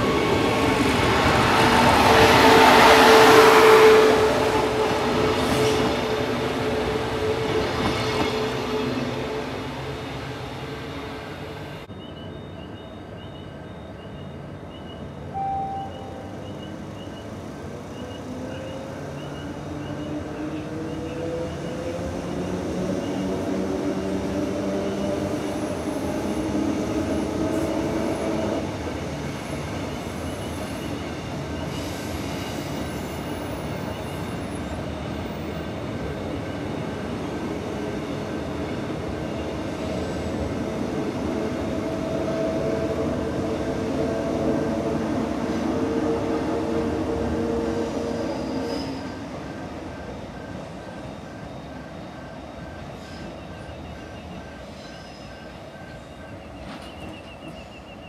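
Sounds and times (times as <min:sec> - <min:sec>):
train wheels on rail: 0:00.0 - 0:12.0, 0:16.4 - 0:58.0.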